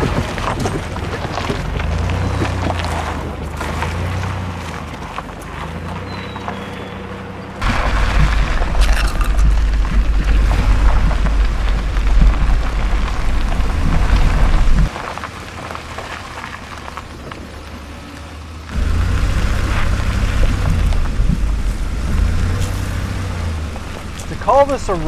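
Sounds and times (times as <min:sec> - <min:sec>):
tyres rumbling on gravel road: 0:00.0 - 0:25.0.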